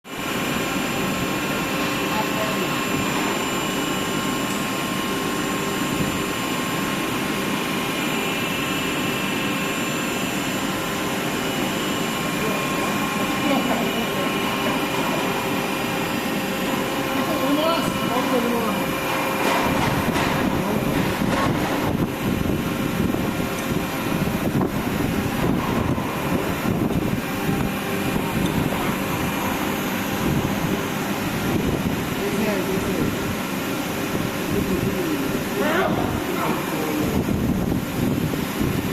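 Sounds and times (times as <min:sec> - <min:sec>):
factory machinery drone: 0:00.1 - 0:38.9.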